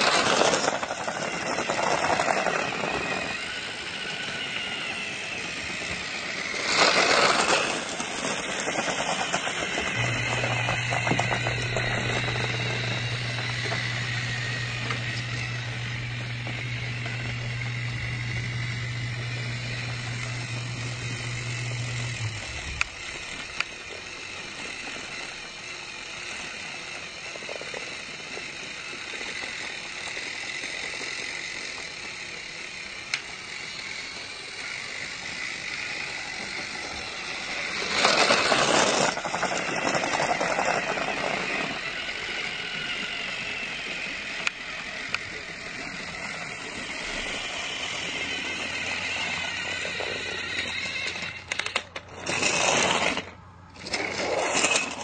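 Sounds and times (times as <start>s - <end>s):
noisy rattle: 0.0s - 55.0s
small motor humming: 0.0s - 55.0s.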